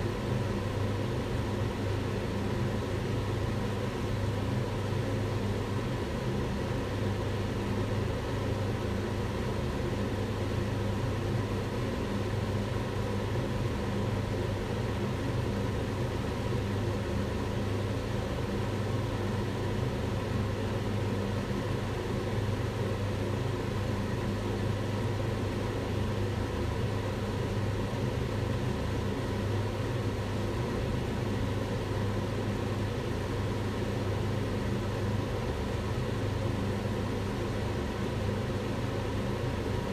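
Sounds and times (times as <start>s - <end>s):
range hood fan running: 0.0s - 39.9s.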